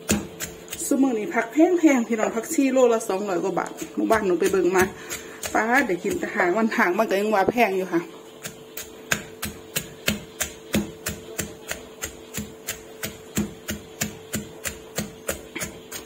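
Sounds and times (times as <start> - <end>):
pestle pounding in clay mortar: 0.0 - 1.5, 3.3 - 16.0
faint steady hum: 0.0 - 16.0.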